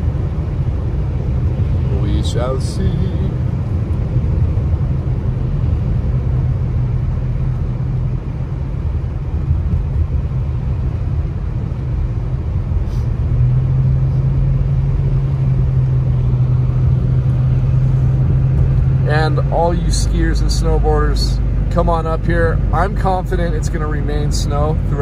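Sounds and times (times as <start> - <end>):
car road rumble from inside: 0.0 - 25.0
steady hum: 0.0 - 25.0.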